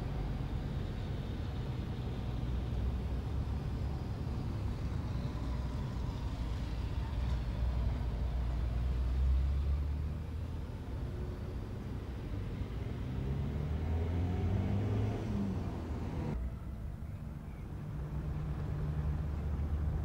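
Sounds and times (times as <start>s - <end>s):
motor vehicles rumbling: 0.0s - 20.0s.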